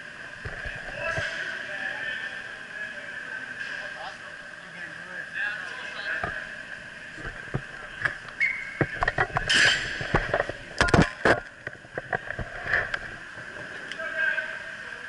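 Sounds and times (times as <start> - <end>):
steady high background hum: 0.0 - 15.0.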